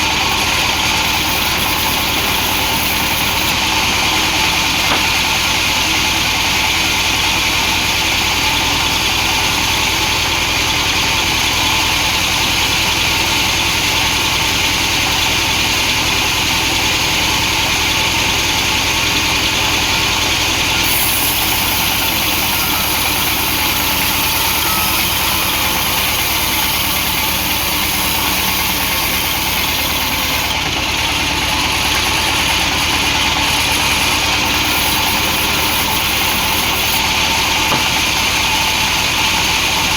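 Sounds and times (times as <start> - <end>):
chainsaw cutting log: 0.0 - 6.5, 13.9 - 39.9.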